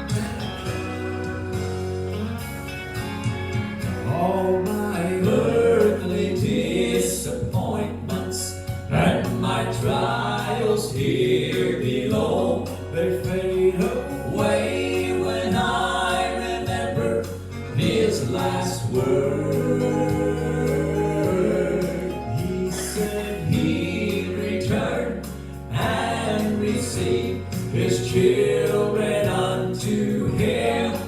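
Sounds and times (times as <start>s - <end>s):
instrumental accompaniment: 0.0s - 31.0s
vocal trio singing in harmony: 3.8s - 31.0s.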